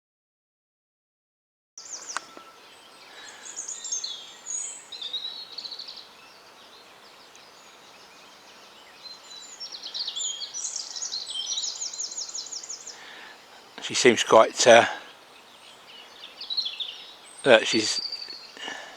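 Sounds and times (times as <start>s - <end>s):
faint outdoor hiss: 1.8s - 18.9s
small songbirds trilling: 1.8s - 18.9s.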